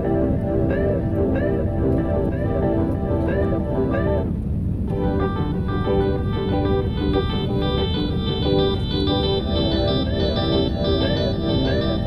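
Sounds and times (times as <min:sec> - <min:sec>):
electronic music with synth: 0:00.0 - 0:04.3, 0:04.9 - 0:12.0.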